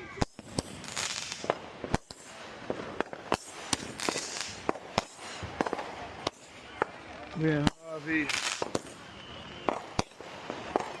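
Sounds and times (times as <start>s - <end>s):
firework crackling: 0.0s - 11.0s
fireworks bangs: 0.0s - 11.0s.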